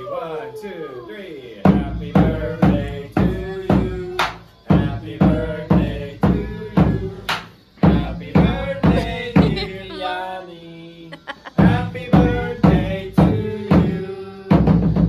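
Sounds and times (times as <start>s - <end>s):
voices singing: 0.0s - 15.0s.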